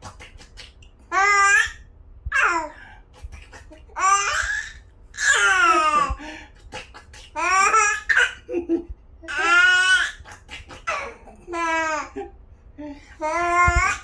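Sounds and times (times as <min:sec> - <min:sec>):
baby laughing and babbling: 0:01.0 - 0:12.3, 0:13.1 - 0:14.0.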